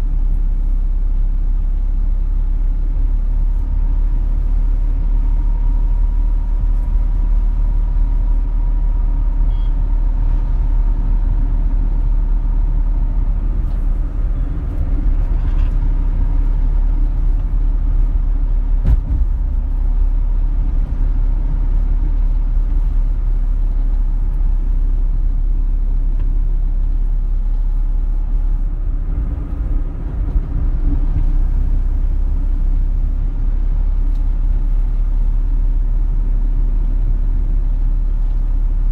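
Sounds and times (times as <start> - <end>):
low rumble: 0.0 - 38.9.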